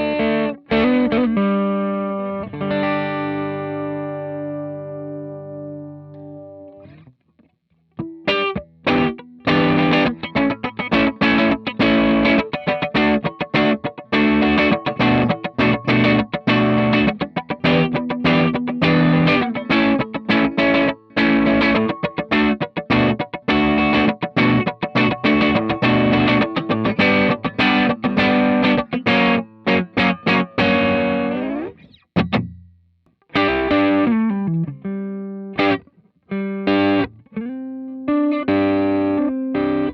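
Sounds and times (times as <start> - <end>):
distorted electric guitar: 0.0 - 7.1, 8.0 - 32.7, 33.3 - 39.9.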